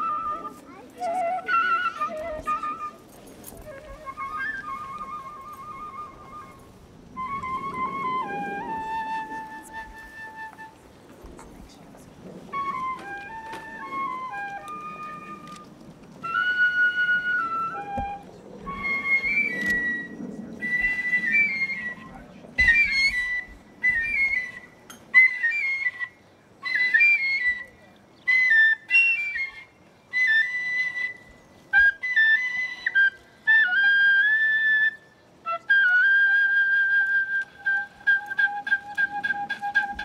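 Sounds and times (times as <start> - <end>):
high-pitched flute: 0.0 - 11.8, 12.4 - 40.0.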